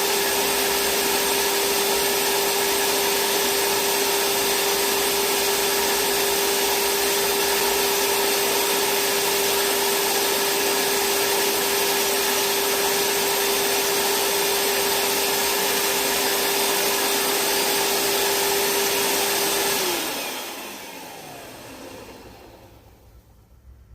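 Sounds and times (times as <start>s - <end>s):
vacuum cleaner running: 0.0s - 23.7s
vacuum motor winding down: 0.0s - 23.8s.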